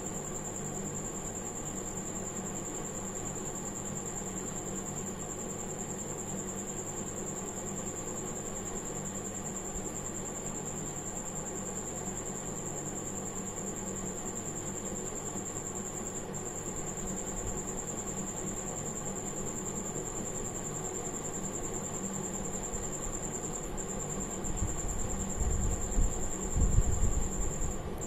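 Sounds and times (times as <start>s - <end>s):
background hum and hiss: 0.0s - 28.0s.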